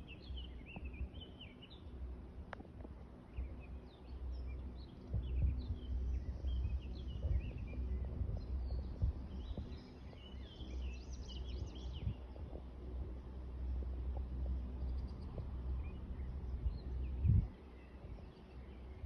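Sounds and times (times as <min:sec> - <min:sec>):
small birds chirping: 0:00.0 - 0:02.1, 0:02.8 - 0:19.0
low rumble: 0:02.0 - 0:19.0.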